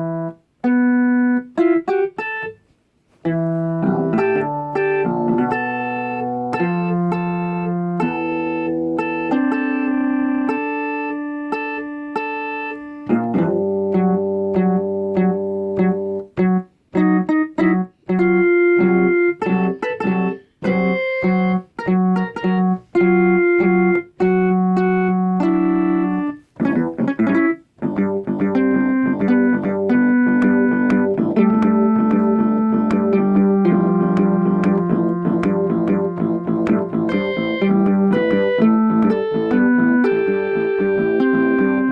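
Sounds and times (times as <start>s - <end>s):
electronic keyboard tune: 0.0s - 2.6s, 3.2s - 41.9s.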